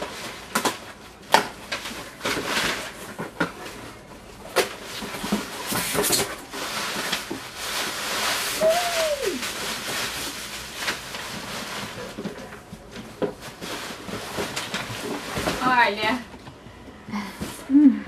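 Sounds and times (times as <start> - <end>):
gift packaging crinkling and rustling: 0.0 - 16.2.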